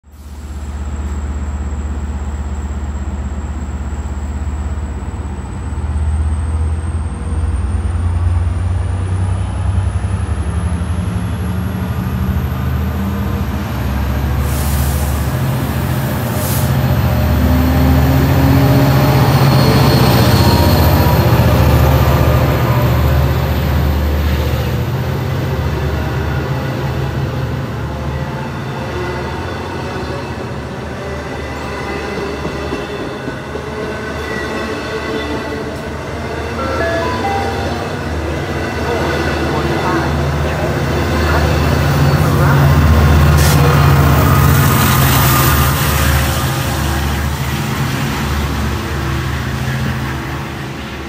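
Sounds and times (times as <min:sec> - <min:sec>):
diesel locomotive engine drone: 0:00.0 - 0:51.0
train coaches rumbling on rails: 0:00.1 - 0:51.0.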